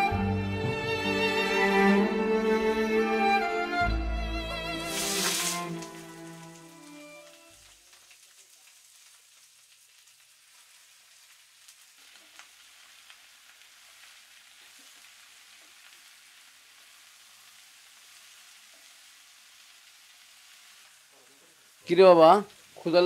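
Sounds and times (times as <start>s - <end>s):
greens sizzling in a pan: 4.4s - 23.0s.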